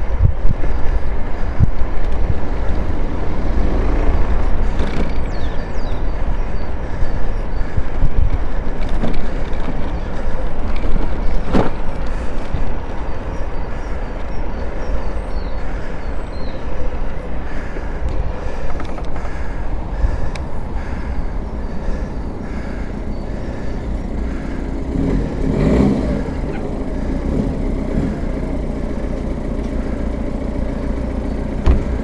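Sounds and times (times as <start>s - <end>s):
wind buffeting microphone: 0.0s - 28.2s
tyre and road noise: 0.0s - 32.0s.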